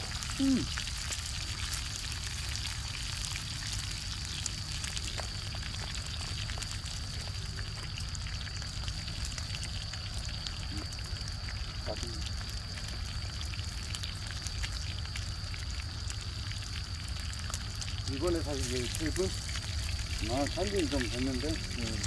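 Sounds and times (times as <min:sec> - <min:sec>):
meat sizzling in a grill pan: 0:00.0 - 0:22.0.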